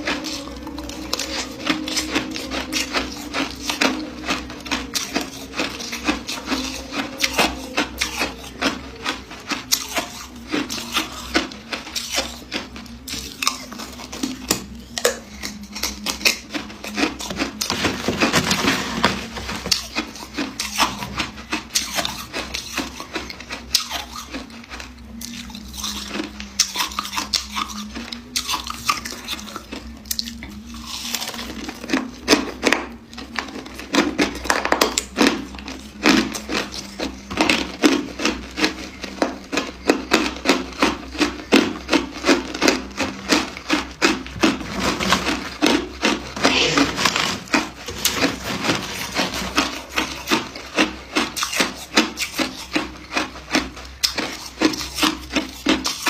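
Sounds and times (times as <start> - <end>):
ice crunching being chewed: 0.0 - 56.0.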